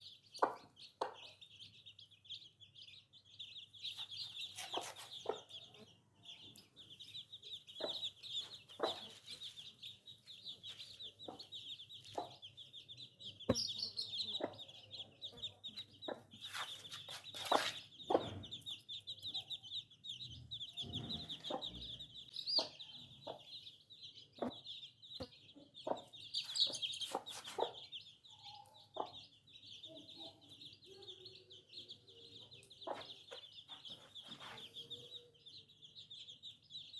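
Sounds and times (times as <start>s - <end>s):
baby chicks peeping: 0.0s - 36.9s.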